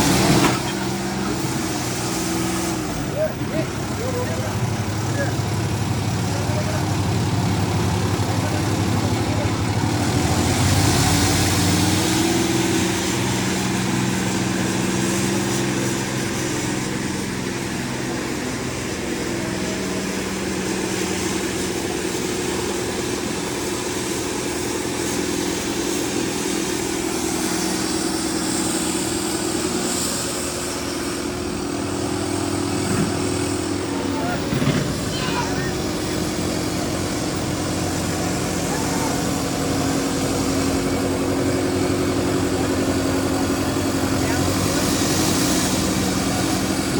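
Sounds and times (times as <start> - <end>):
tractor engines under load: 0.0 - 46.9.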